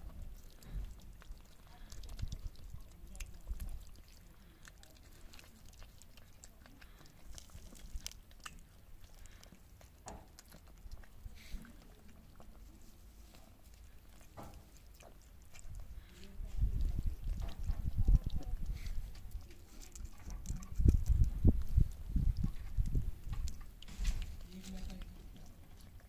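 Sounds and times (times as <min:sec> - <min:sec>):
cats lapping from metal bowl: 0:00.0 - 0:26.0.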